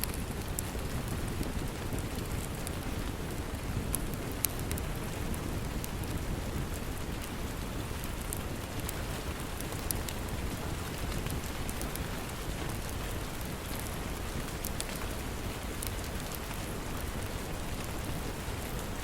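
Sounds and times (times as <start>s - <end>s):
heavy rain: 0.0s - 19.0s
wood fire crackling and popping: 0.0s - 19.0s.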